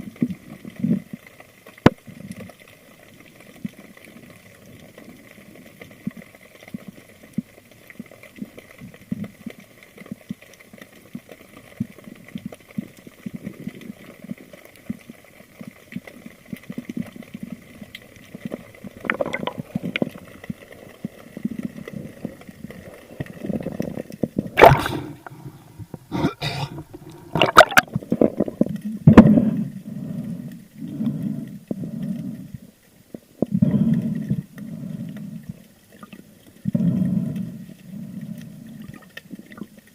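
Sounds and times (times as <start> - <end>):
underwater gurgling: 0.0 - 39.9.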